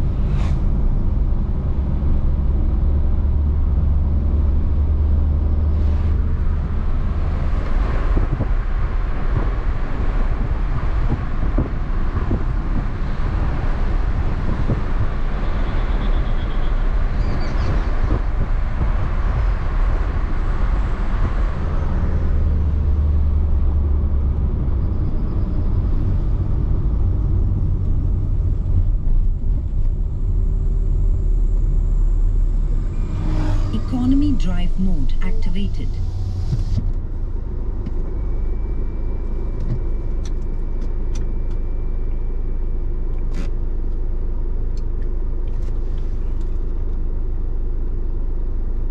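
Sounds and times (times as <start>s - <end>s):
car engine rumble: 0.0s - 48.9s
tyre and road noise: 0.0s - 48.9s.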